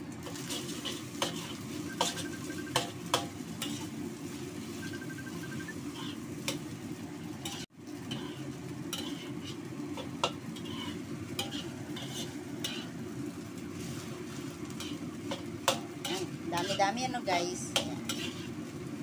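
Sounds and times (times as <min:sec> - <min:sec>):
metal spatula scraping a wok: 0:00.2 - 0:04.8, 0:05.8 - 0:06.7, 0:07.4 - 0:13.0, 0:13.7 - 0:18.7.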